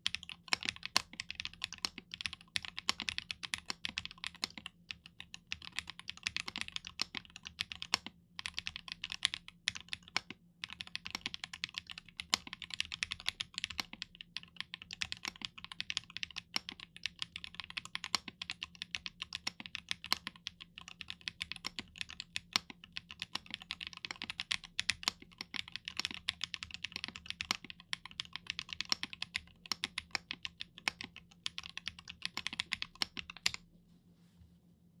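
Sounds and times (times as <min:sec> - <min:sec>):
mechanical keyboard typing: 0:00.0 - 0:33.6.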